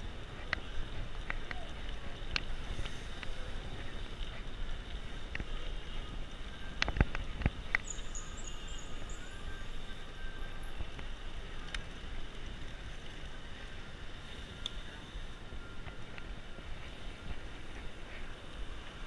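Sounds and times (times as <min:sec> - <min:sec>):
bicycle road noise: 0:00.0 - 0:19.0.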